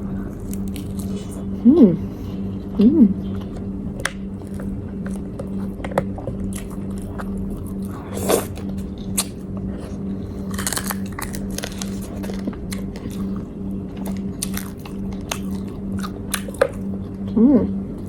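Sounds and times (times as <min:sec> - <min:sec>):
crisp crunchy chewing: 0:00.0 - 0:01.6, 0:02.2 - 0:17.4
low steady hum: 0:00.0 - 0:18.0.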